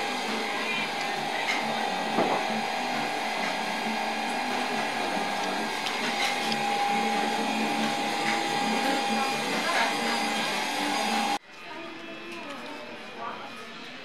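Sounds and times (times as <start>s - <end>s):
steady whirring hum: 0.0s - 14.0s.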